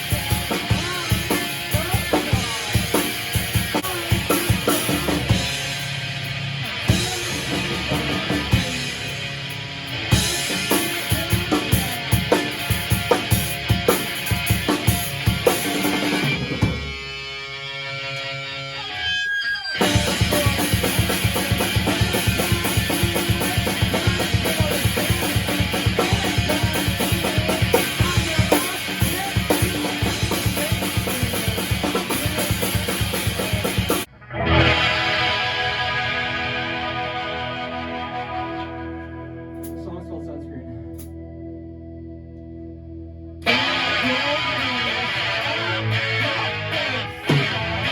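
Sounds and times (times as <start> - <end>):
held guitar chords: 0.0 - 47.9
rock band playing: 0.0 - 47.9.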